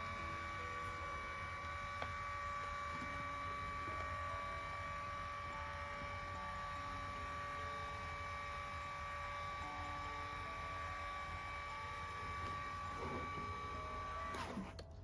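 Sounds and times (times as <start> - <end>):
massage cushion motor humming: 0.0 - 15.0.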